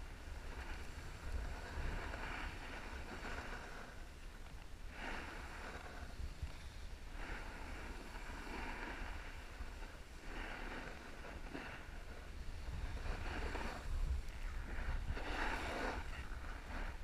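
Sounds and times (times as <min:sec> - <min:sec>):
skis scraping across snow: 0:00.0 - 0:17.0
wind rushing over microphone: 0:00.0 - 0:17.0.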